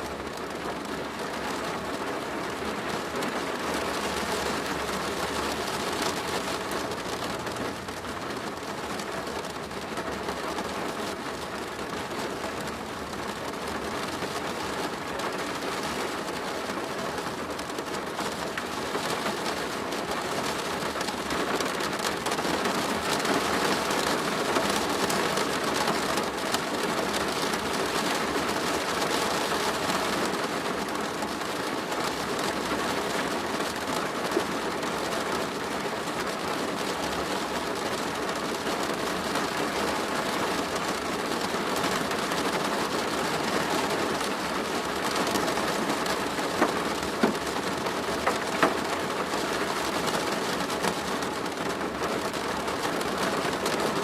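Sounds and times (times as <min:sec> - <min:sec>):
rain drumming on a plastic roof: 0:00.0 - 0:54.0.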